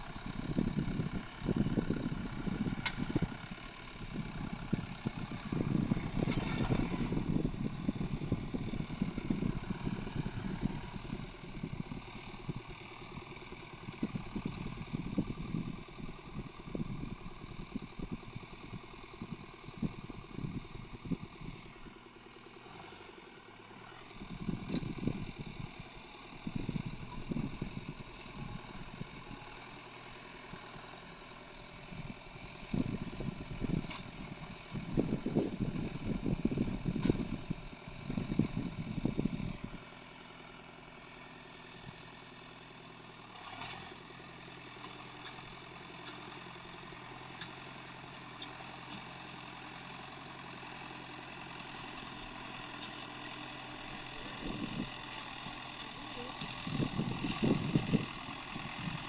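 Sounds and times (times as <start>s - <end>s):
engine running with rough surges: 0.0s - 59.0s.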